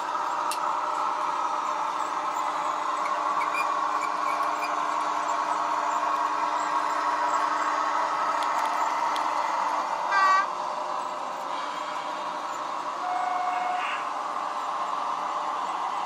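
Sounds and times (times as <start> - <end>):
model train humming: 0.0 - 16.0.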